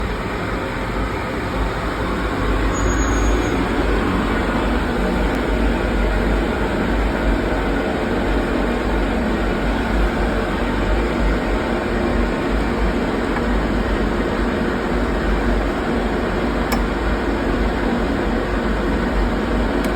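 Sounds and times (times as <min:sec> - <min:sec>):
boiler machinery running: 0:00.0 - 0:19.9.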